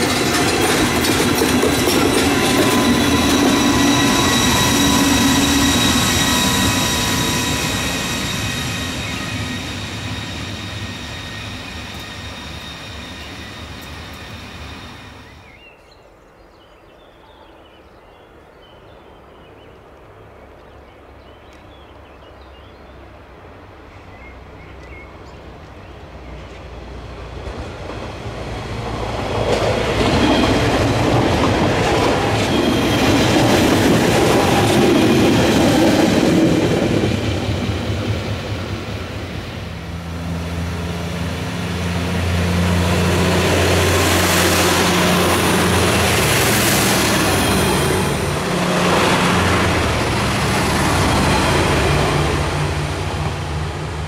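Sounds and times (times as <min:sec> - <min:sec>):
train wheels passing close: 0:00.0 - 0:15.7, 0:23.5 - 0:54.0
train whining past: 0:00.0 - 0:15.8, 0:23.0 - 0:54.0.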